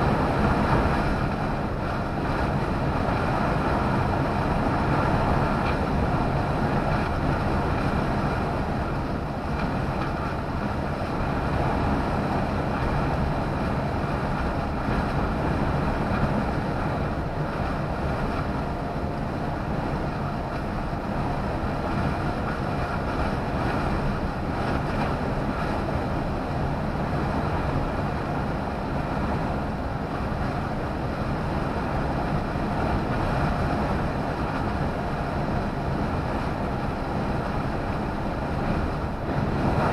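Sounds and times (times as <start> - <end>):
low engine drone: 0.0 - 39.9
tyre road noise: 0.0 - 39.9.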